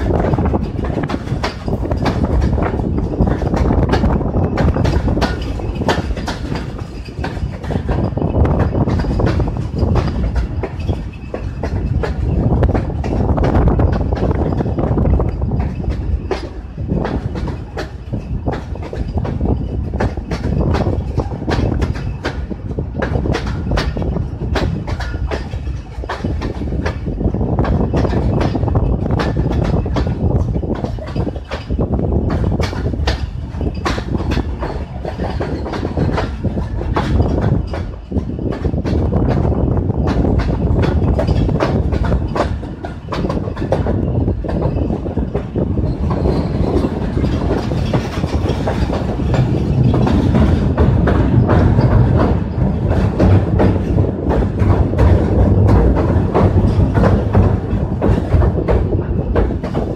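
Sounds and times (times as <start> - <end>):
steady low rumble: 0.0 - 59.9
train wheels clattering on rails: 0.0 - 59.9.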